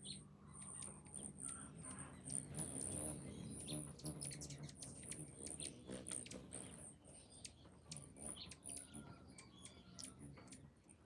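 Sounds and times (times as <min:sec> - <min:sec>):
hummingbirds chirping: 0:00.0 - 0:11.0.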